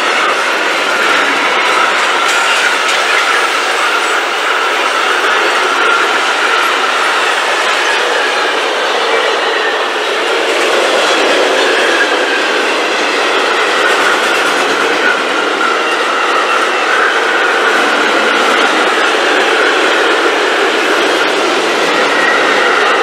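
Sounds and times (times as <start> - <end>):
freight train wheels rattling: 0.0 - 23.0.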